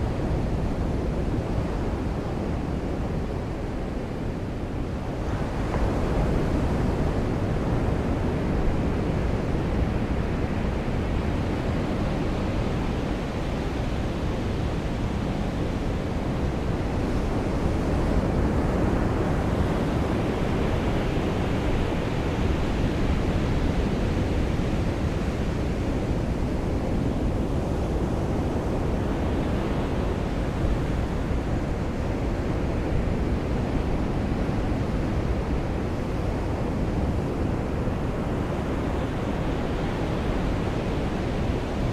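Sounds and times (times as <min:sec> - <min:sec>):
ocean surf washing on beach: 0:00.0 - 0:41.9.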